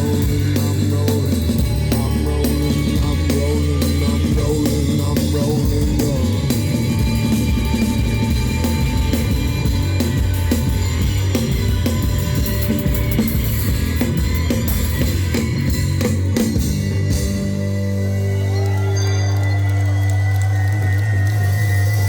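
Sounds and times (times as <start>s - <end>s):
low bass line: 0.0s - 22.0s
rock band playing live: 0.0s - 22.0s.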